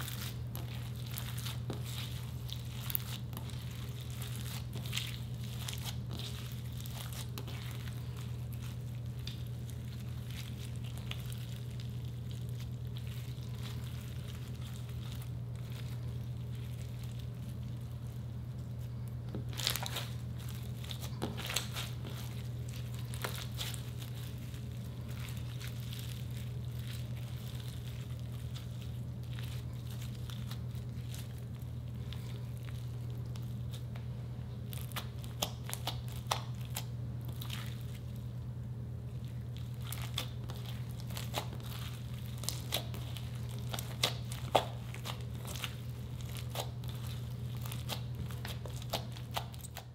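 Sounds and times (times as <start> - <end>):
slime crinkling and popping: 0.0 - 49.9
steady low hum: 0.0 - 49.9.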